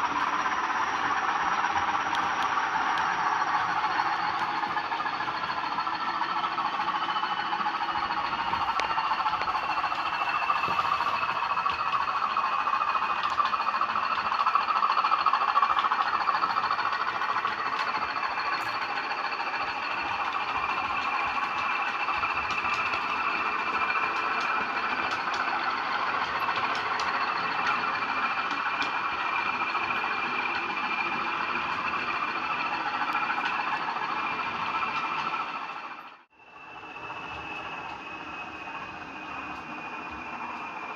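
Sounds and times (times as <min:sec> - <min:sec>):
model locomotive engine sound: 0:00.0 - 0:40.9
steady high whine: 0:00.0 - 0:40.9.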